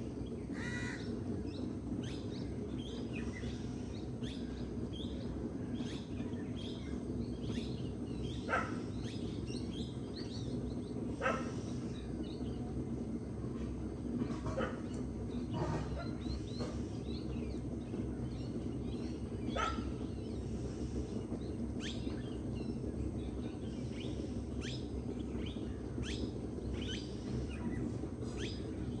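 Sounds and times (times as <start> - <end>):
birds singing and calling: 0.0 - 29.0.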